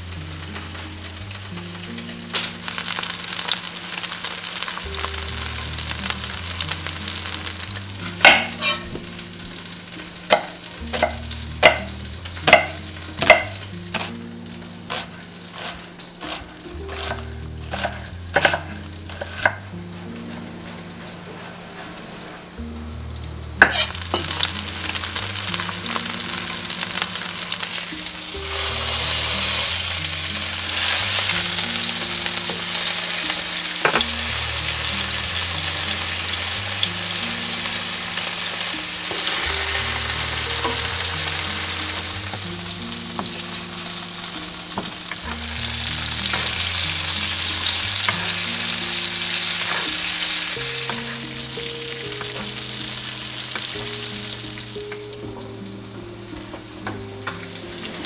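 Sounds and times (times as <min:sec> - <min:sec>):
background music: 0:00.0 - 0:58.0
fish sizzling in a pan: 0:00.0 - 0:58.0.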